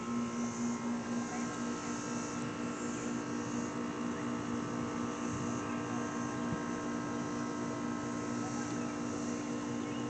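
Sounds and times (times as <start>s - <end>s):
air-conditioning unit humming: 0.0s - 10.0s
cicada chorus: 0.0s - 10.0s.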